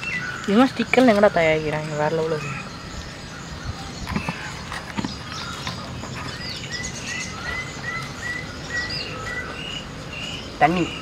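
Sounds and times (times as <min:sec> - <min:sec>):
birds chirping: 0:00.0 - 0:11.0
steady outdoor hiss: 0:00.0 - 0:11.0.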